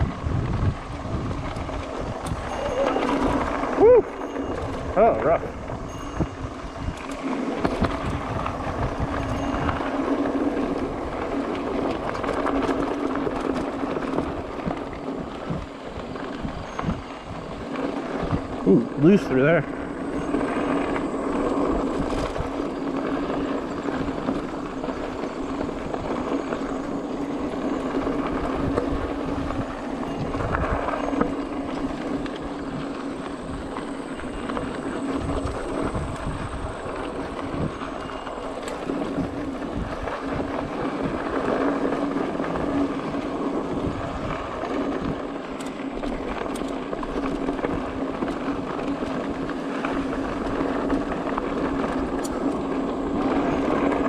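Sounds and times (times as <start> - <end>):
bike rattling and knocking: 0.0 - 54.0
bike tyres rolling over dirt: 0.0 - 54.0
wind on microphone: 0.0 - 54.0.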